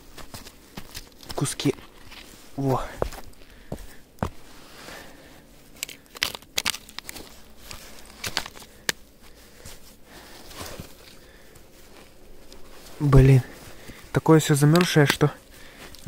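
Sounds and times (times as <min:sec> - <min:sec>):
frozen snow crunching: 0:00.0 - 0:16.0.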